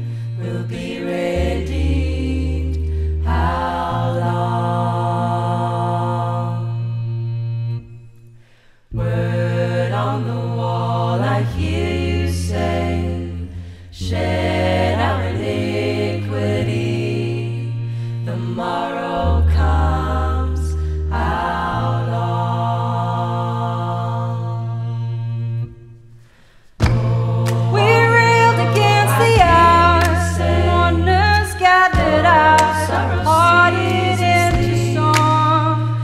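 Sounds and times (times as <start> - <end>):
deep held bass notes: 0.0 - 26.2, 26.8 - 36.0
women singing in close harmony: 0.3 - 6.9, 8.9 - 24.8, 26.8 - 36.0.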